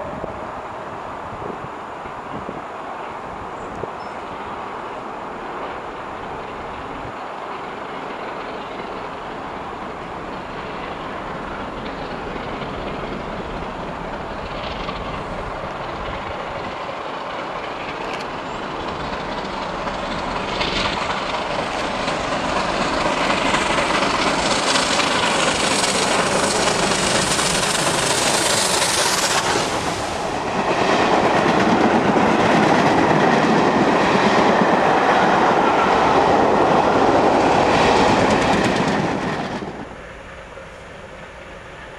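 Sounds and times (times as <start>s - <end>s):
steam locomotive exhaust and hiss: 0.0s - 41.9s
train wheels clacking on rails: 3.0s - 41.9s.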